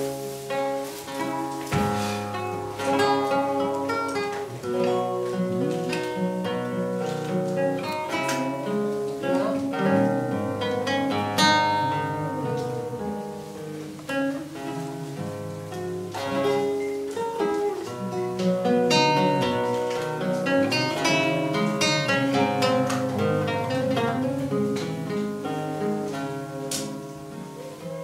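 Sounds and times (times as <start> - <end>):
fingerpicked classical guitar: 0.0 - 28.0.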